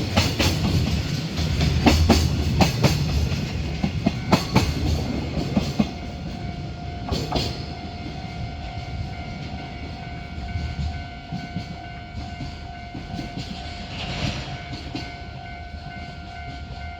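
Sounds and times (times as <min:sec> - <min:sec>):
freight wagons rumbling on rails: 0:00.0 - 0:16.9
level-crossing warning bell: 0:03.2 - 0:16.9.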